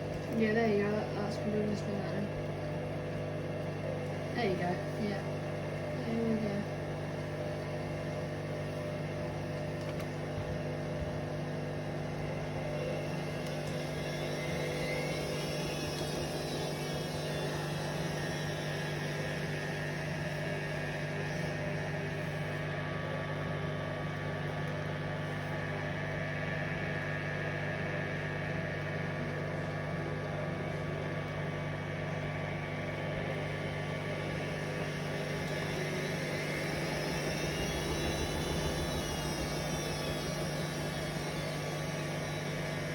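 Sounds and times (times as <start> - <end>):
motor hum with high whine: 0.0 - 42.9
washing machine spinning: 0.0 - 42.9.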